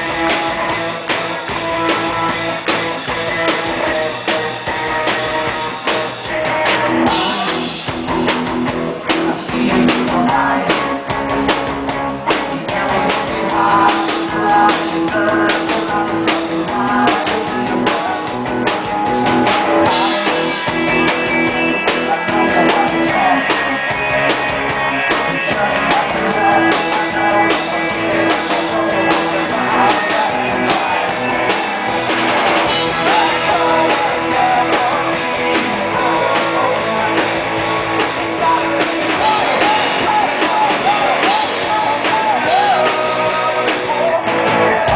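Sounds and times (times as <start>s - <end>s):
person singing: 0.0s - 8.4s, 9.0s - 44.9s
drum kit: 0.0s - 44.9s
electric guitars: 0.0s - 44.9s.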